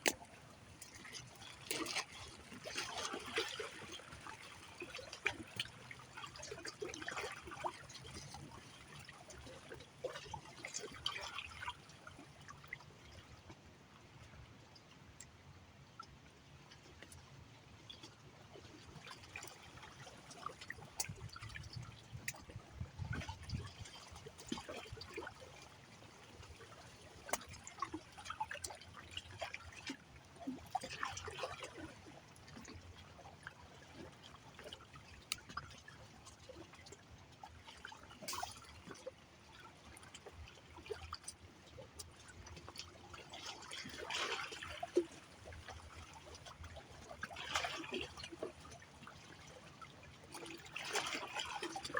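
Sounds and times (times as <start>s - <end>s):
small splashes and clicks: 0.0s - 51.9s
water trickling and lapping: 0.0s - 51.9s.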